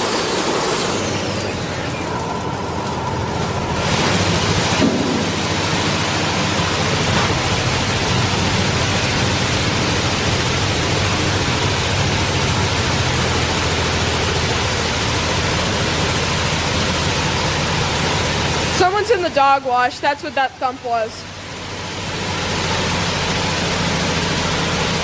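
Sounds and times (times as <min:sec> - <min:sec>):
car wash water rushing hiss: 0:00.0 - 0:19.8, 0:20.8 - 0:25.0
low machine hum: 0:00.0 - 0:25.0.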